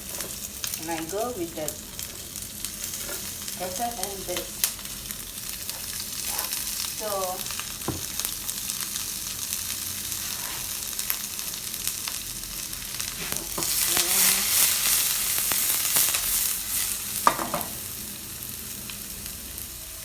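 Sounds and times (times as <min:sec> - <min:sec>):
vegetables sizzling in frying pan: 0:00.0 - 0:20.0.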